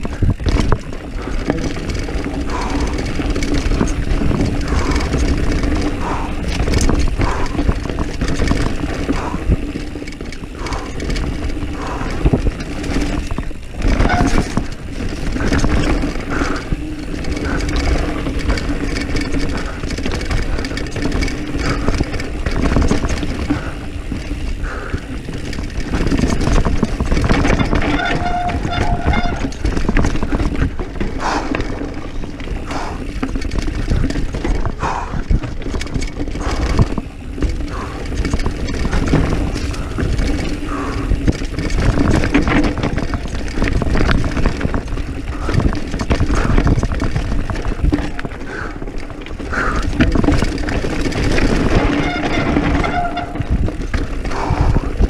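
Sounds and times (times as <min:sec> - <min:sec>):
bike rattling over bumps: 0:00.0 - 0:55.0
bike tyres on dirt and stones: 0:00.0 - 0:55.0.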